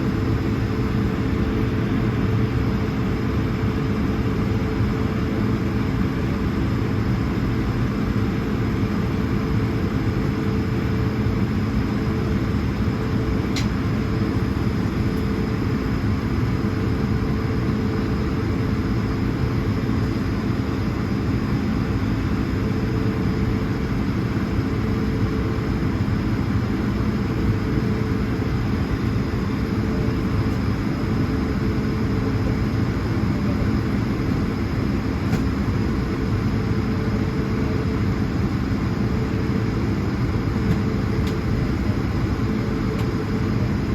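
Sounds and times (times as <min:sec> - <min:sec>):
aircraft cabin engine drone: 0:00.0 - 0:43.9.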